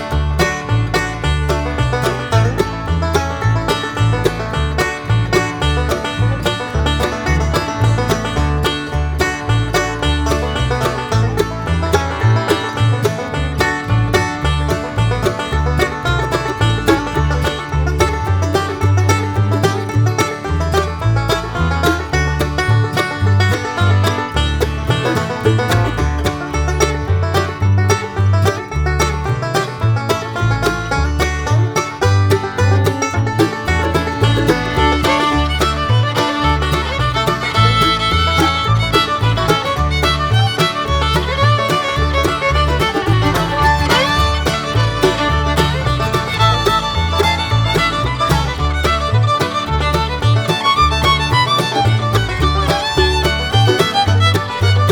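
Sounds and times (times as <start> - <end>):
upbeat bluegrass music: 0.0 - 54.9.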